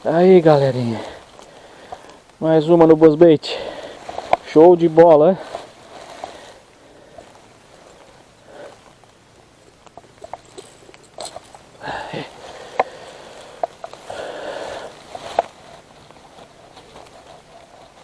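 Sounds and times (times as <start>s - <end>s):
short rustling: 0.0s - 18.0s.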